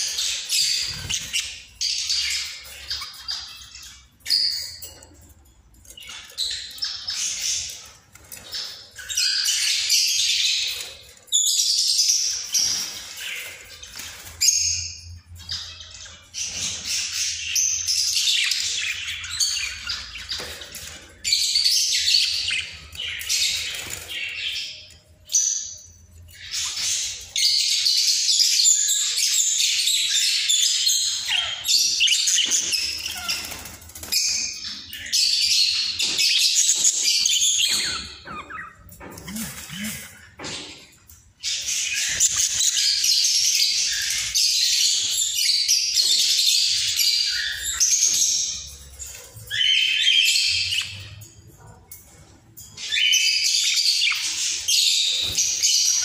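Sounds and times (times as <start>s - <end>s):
budgerigars chirping and chattering: 0.0s - 56.0s.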